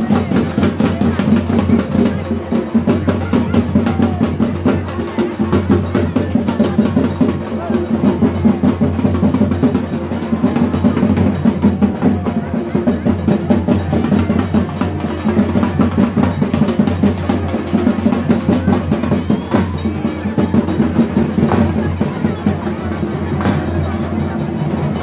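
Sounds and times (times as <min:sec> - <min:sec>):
drums rolling beat: 0:00.0 - 0:25.0.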